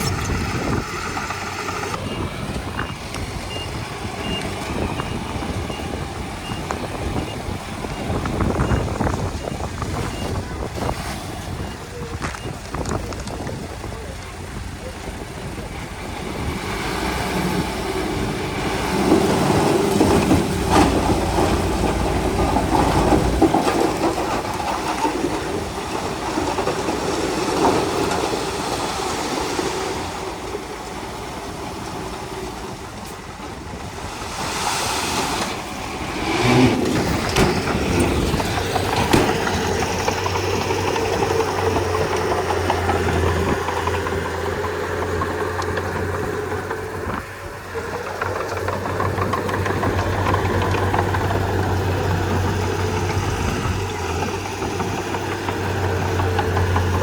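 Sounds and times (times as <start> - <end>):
bulldozer diesel engine running: 0.0 - 57.0
steel tracks clanking: 0.0 - 57.0.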